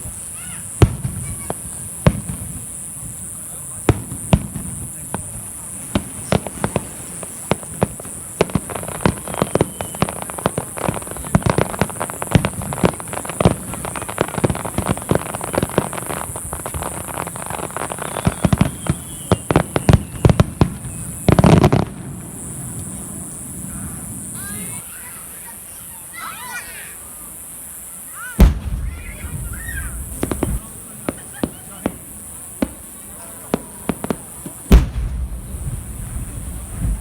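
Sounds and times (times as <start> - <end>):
fireworks bursting with bangs: 0.0 - 25.8, 27.2 - 37.0.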